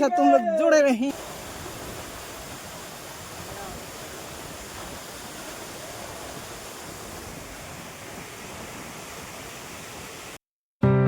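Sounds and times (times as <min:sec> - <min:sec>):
flowing water: 0:00.0 - 0:10.4.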